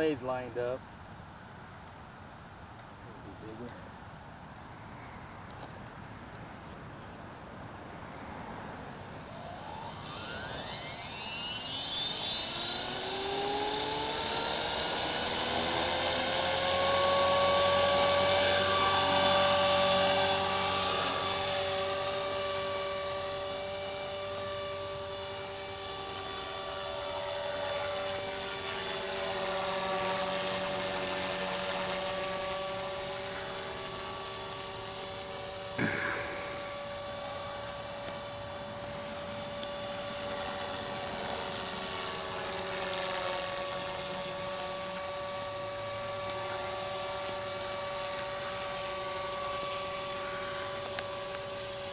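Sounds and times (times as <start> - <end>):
model helicopter rotor whine: 0.0 - 0.8, 8.0 - 51.9.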